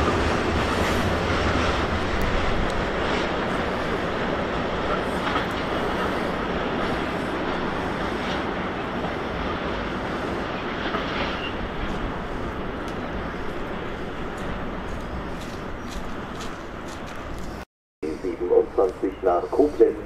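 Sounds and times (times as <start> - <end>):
rumble of train wheels on rail: 0.0 - 20.0.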